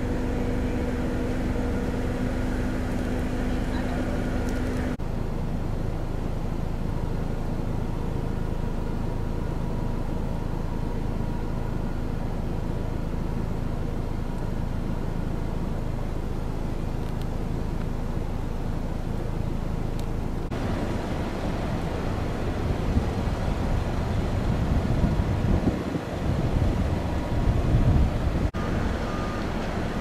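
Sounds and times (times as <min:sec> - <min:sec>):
faint steady whine: 0:00.0 - 0:30.0
vehicle engine rumbling: 0:00.0 - 0:30.0.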